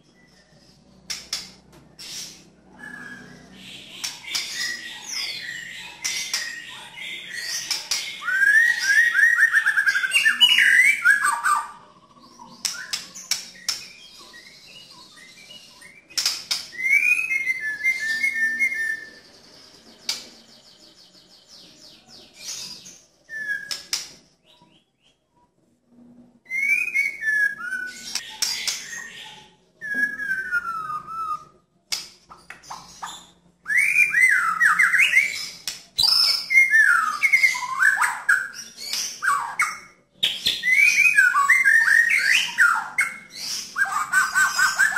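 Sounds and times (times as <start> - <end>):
bird singing whistles and trills: 1.9 - 25.2, 26.4 - 31.6, 32.4 - 44.9.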